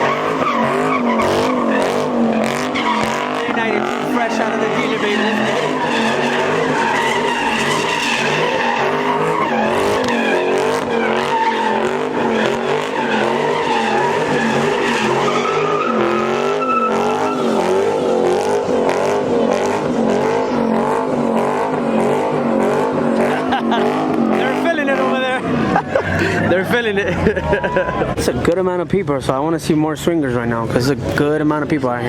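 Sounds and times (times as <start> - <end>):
car engine at high revs: 0.0 - 28.5
tires squealing: 0.0 - 28.6.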